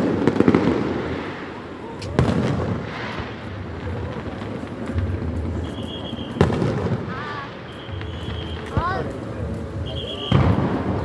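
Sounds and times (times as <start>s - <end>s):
firework bangs: 0.0s - 11.0s
fireworks crackling and rumbling: 0.0s - 11.0s.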